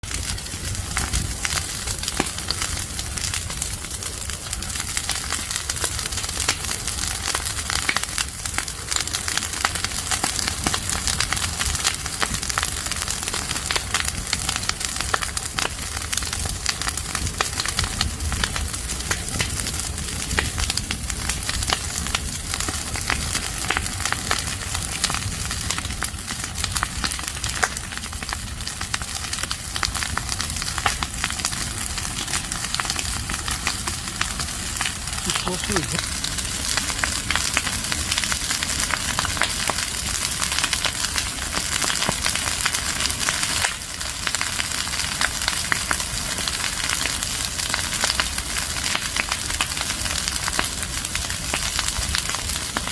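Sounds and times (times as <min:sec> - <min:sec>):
fire crackling and popping: 0:00.0 - 0:52.9
fire hissing: 0:00.1 - 0:52.9.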